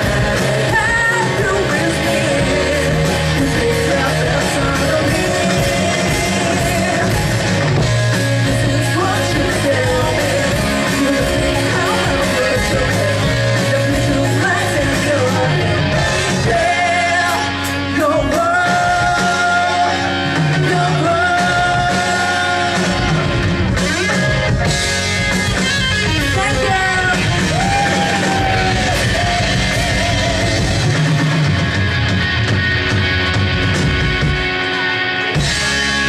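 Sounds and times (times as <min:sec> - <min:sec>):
person singing lead vocals: 0:00.0 - 0:24.4, 0:26.0 - 0:31.3
bass guitar: 0:00.0 - 0:36.0
drums: 0:00.0 - 0:36.0
electric guitar: 0:00.0 - 0:36.0.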